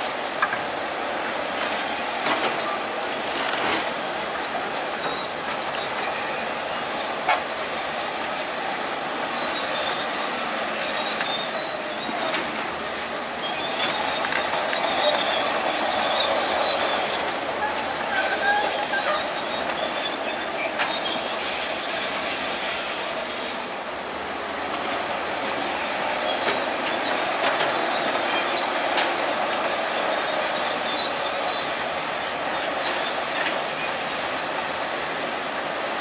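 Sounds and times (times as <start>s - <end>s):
bulldozer machine noise: 0.0s - 36.0s
steel tracks clanking: 0.0s - 36.0s
steel tracks squealing: 0.0s - 36.0s.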